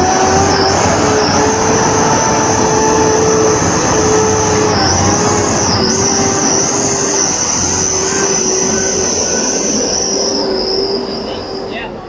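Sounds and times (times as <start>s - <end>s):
heavy engine drone: 0.0s - 12.0s
high-pitched whine: 0.0s - 12.0s.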